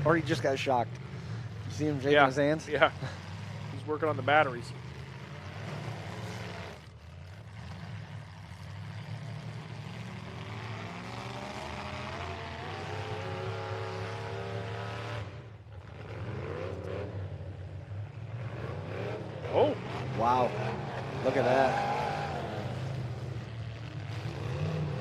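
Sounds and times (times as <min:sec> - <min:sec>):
engine revving: 0:00.0 - 0:25.0
truck engines droning: 0:00.0 - 0:25.0.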